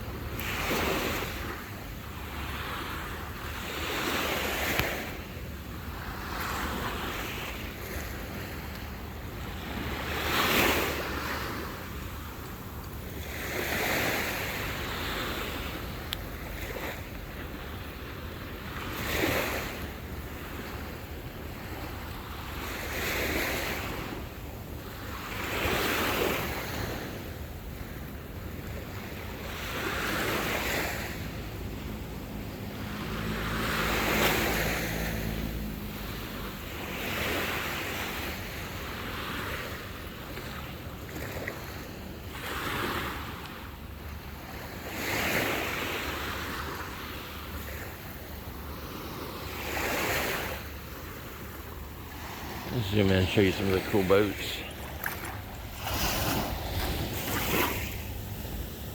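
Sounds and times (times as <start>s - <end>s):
small waves breaking on beach: 0.0s - 58.9s.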